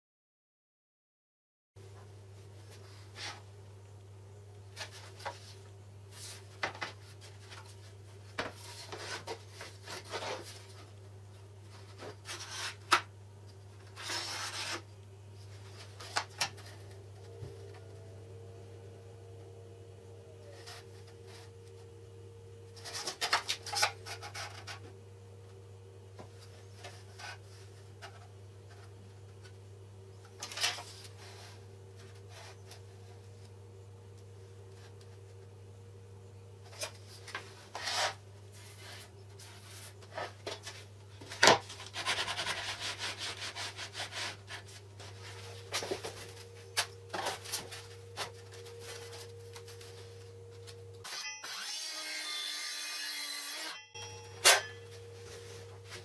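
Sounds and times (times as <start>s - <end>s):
steady low hum: 1.8s - 51.1s, 54.0s - 56.0s.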